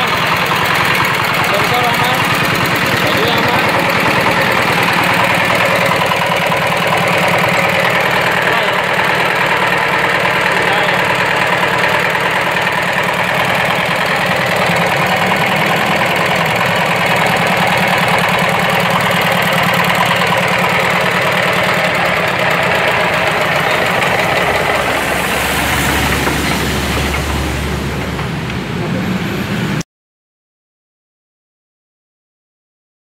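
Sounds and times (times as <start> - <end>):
diesel engine idling: 0.0 - 29.8.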